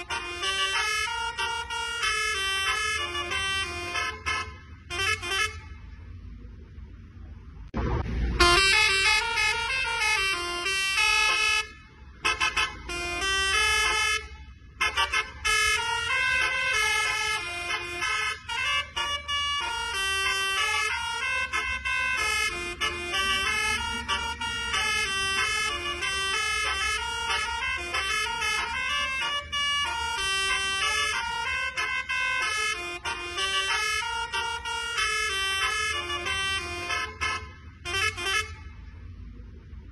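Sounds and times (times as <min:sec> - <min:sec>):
musical air horn tune: 0:00.0 - 0:05.8, 0:08.4 - 0:38.7
low engine hum: 0:00.0 - 0:39.9.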